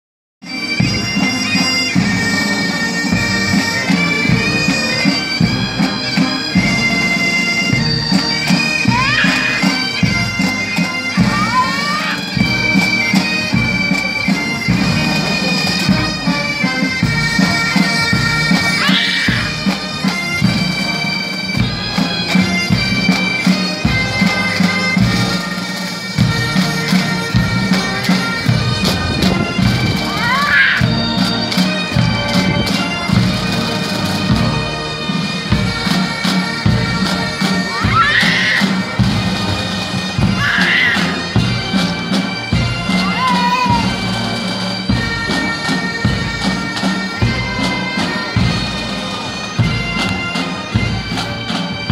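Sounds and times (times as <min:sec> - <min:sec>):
bagpipes playing a march: 0:00.4 - 0:51.9.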